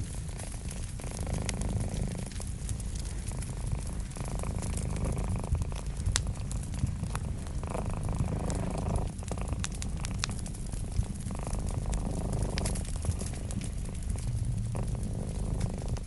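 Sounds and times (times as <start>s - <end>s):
cat purring: 0.0s - 16.0s
wood fire crackling: 0.0s - 16.0s.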